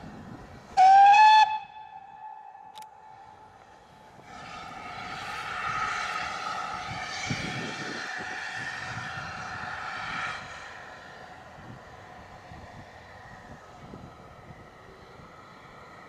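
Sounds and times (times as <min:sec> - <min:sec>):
locomotive steam hissing: 0:03.1 - 0:16.0.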